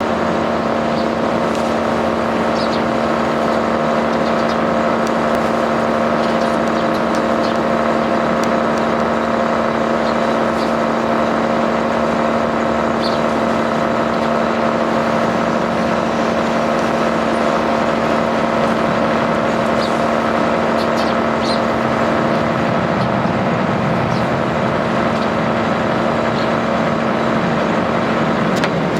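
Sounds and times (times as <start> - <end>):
sparrows chirping: 0.0 - 28.9
steady motor hum: 0.0 - 28.9.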